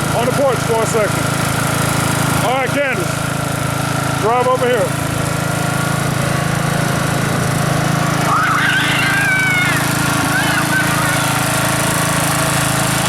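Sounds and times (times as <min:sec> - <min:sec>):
riding mower engine running: 0:00.0 - 0:13.0.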